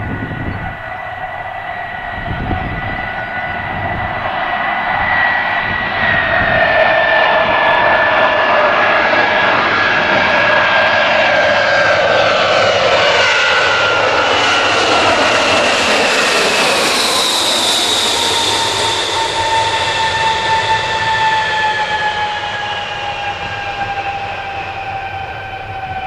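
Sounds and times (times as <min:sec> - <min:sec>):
high-pitched engine whine: 0:00.0 - 0:26.0
jet engines roaring and whining: 0:00.0 - 0:26.0.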